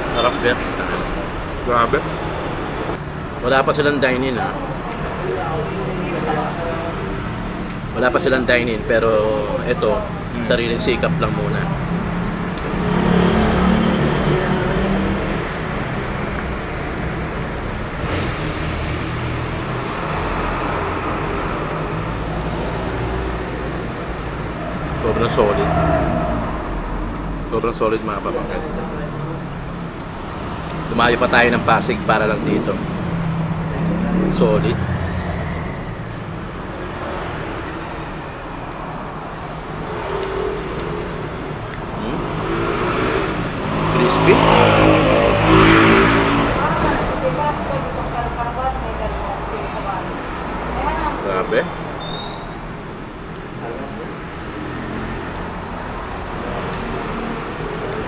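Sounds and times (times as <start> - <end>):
traffic rumble: 0.0 - 58.0.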